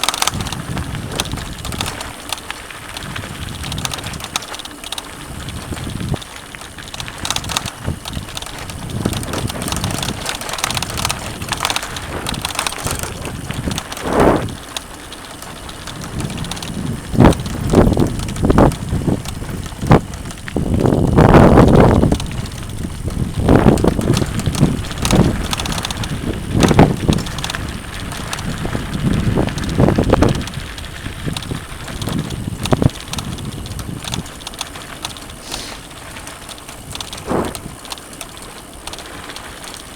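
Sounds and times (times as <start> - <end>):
wind on microphone: 0.0 - 2.3, 2.9 - 4.4, 5.2 - 14.8, 15.4 - 38.0
bike thumps and clatters: 0.0 - 39.9
bike tyre and rattle noise: 0.0 - 39.9.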